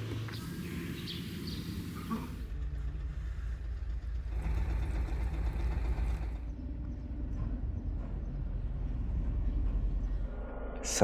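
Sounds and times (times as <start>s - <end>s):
vehicle engine idling: 0.0s - 10.1s.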